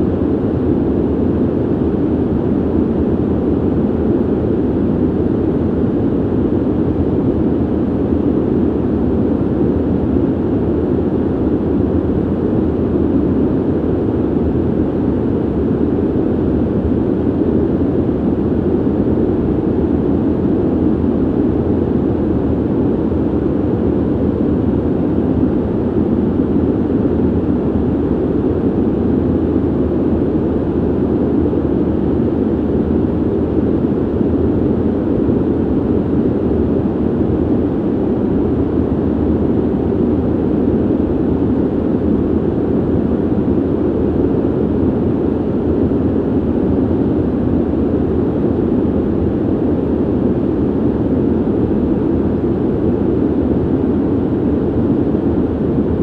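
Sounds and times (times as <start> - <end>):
ventilation air rushing: 0.0 - 56.0.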